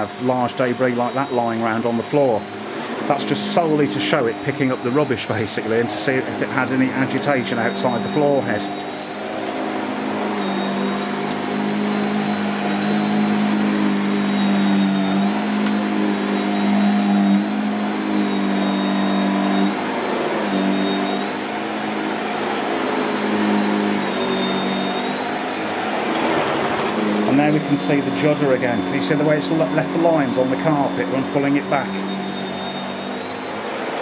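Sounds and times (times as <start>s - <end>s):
vacuum cleaner running on carpet: 0.0s - 34.0s.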